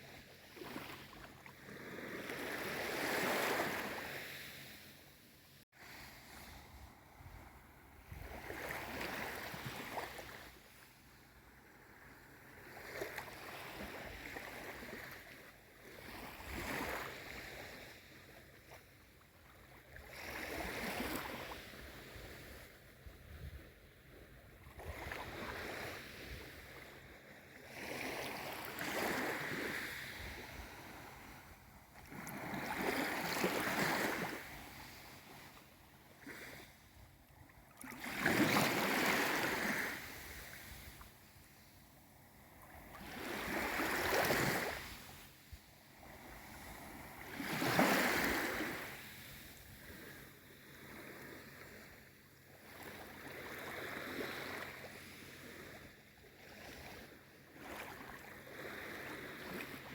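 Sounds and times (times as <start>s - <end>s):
small sea waves washing in: 0.0s - 59.9s.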